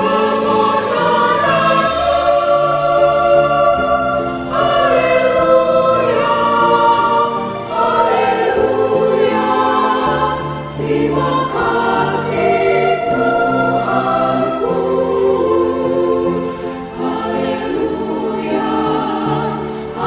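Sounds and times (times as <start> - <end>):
choir singing sustained chords: 0.0 - 20.0.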